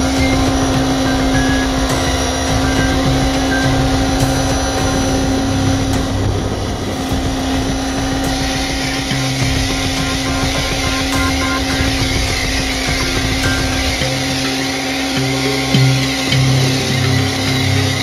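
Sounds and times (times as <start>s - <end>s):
pressure washer motor humming: 0.0s - 18.0s.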